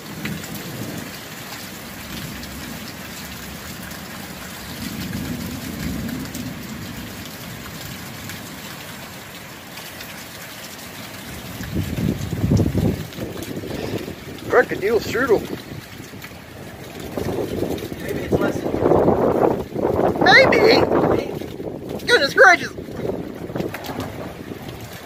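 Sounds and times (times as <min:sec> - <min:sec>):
low thunder rumbles: 0:00.0 - 0:08.7, 0:11.2 - 0:25.0
heavy rain pouring: 0:00.0 - 0:25.0.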